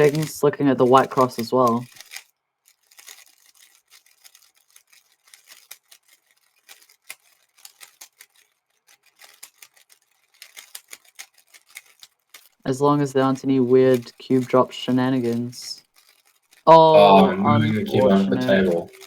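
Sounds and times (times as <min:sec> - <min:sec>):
puzzle cube clicking: 0:00.0 - 0:19.0.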